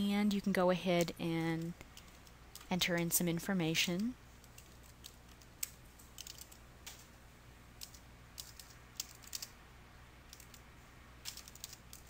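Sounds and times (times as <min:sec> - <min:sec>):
keyboard typing: 0:00.0 - 0:07.1, 0:07.8 - 0:09.6, 0:10.3 - 0:12.0.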